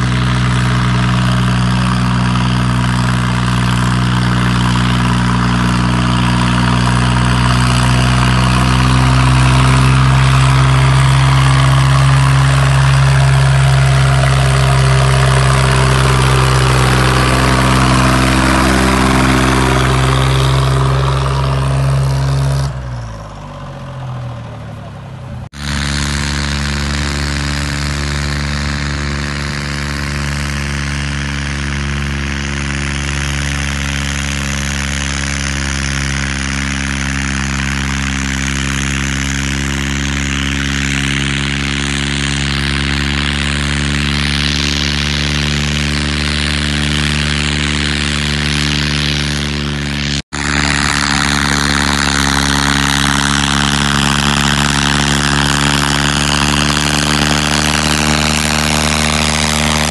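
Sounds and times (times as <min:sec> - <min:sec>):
diesel tractor engine running hard: 0:00.0 - 0:59.9.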